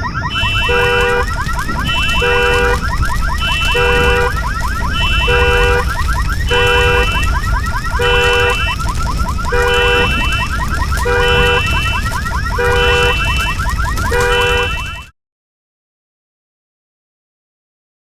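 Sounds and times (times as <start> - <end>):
deep steady rumble: 0.0 - 15.0
multi-note beep: 0.0 - 15.1.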